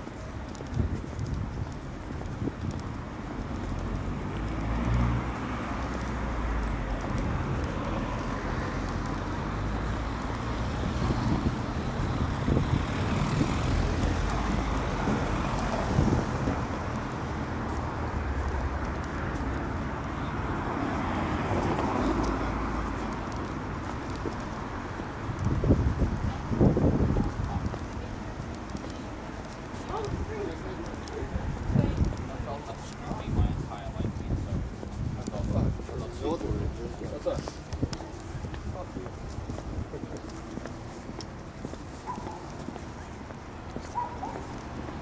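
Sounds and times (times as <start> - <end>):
cars passing at low speed: 0.0 - 45.0.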